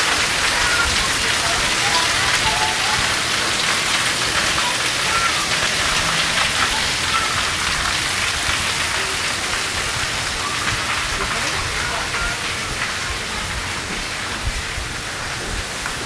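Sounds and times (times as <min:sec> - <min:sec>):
water splashing on hard surface: 0:00.0 - 0:16.0.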